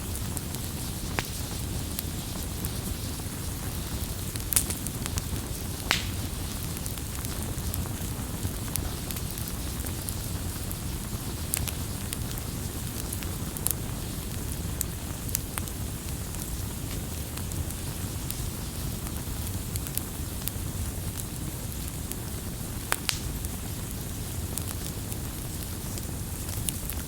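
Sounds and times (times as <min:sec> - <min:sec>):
campfire crackling and popping: 0:00.0 - 0:27.0
campfire rumbling and hissing: 0:00.0 - 0:27.0.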